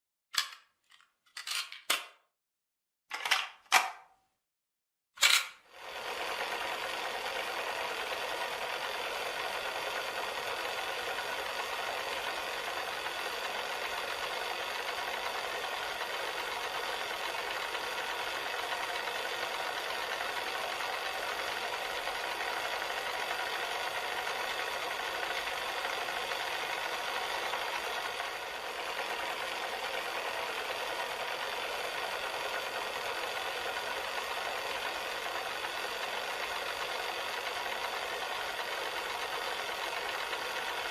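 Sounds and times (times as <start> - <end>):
cassette tape mechanism running: 5.8 - 40.9.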